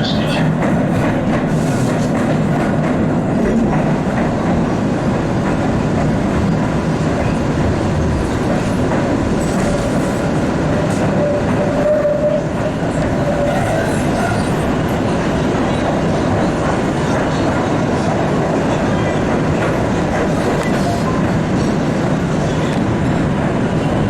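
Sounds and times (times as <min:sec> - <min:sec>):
subway car rumble and rail noise: 0:00.0 - 0:24.0.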